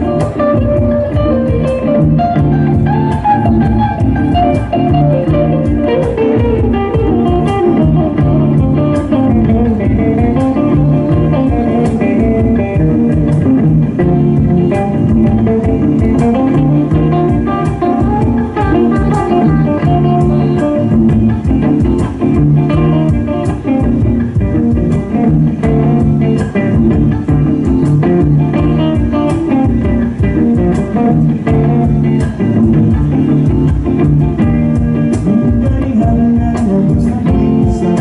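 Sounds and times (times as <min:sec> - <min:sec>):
bass guitar: 0:00.0 - 0:38.0
drums: 0:00.0 - 0:38.0
guitar line: 0:00.0 - 0:38.0.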